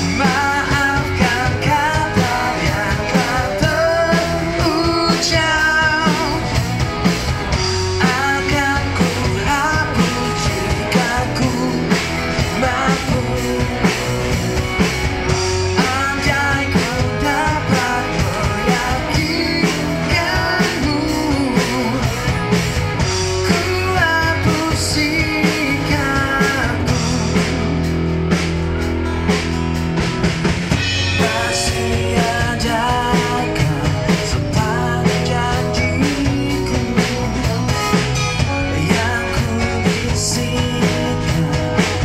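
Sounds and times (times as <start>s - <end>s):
man singing into a microphone: 0.0s - 6.8s, 7.6s - 14.2s, 15.4s - 22.6s, 23.2s - 27.8s, 30.8s - 42.0s
electric guitar: 0.0s - 42.0s
rock drum beat: 0.0s - 42.0s.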